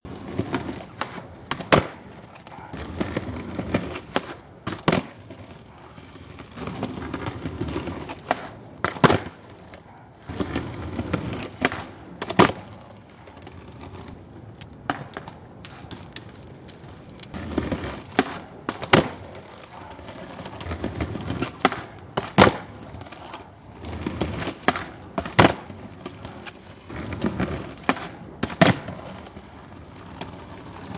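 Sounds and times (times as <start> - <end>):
skateboard wheels rolling on pavement: 0.0 - 30.9
skateboard clacking on landing: 0.3 - 5.4, 6.7 - 14.0, 14.6 - 29.4.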